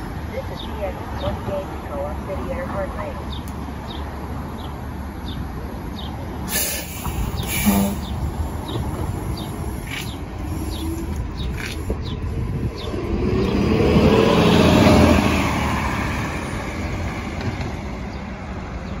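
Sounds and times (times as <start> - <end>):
bus engine and tyre noise: 0.0 - 19.0.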